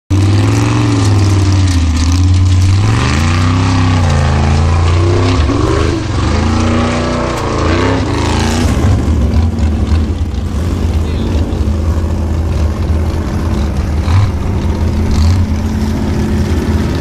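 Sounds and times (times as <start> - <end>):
buggy engine revving: 0.1 - 17.0.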